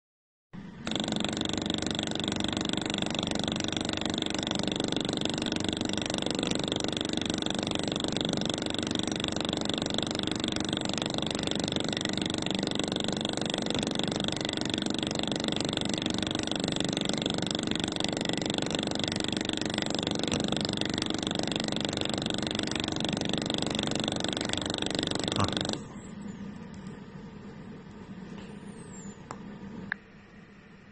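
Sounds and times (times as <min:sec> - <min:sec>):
welder buzzing: 0:00.6 - 0:26.2.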